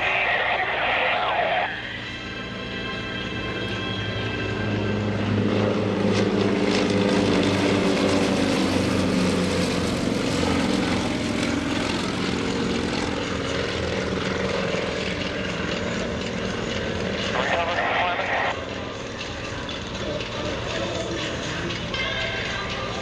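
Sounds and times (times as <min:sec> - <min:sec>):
propeller planes droning: 0:00.0 - 0:23.0.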